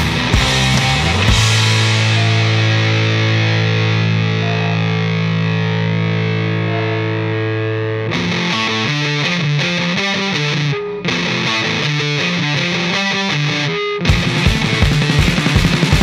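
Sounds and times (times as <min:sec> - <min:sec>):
distorted electric guitar rock: 0:00.0 - 0:16.0.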